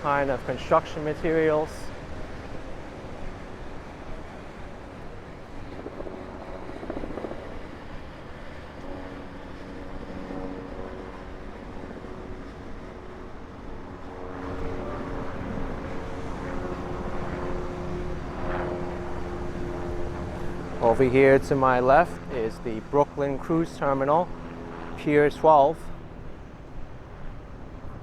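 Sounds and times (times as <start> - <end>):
low engine drone: 0.0 - 28.0
outdoor background noise: 0.0 - 28.0.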